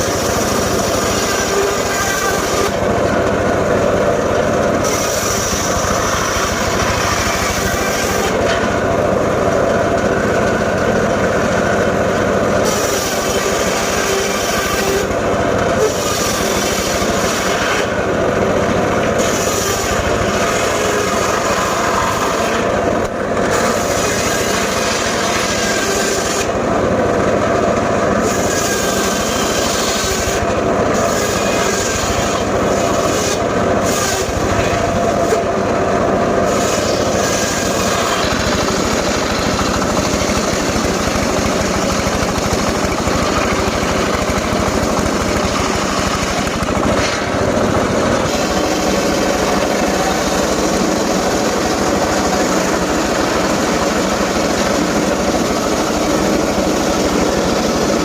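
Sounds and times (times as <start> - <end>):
engine-driven saw cutting timber: 0.0 - 58.0.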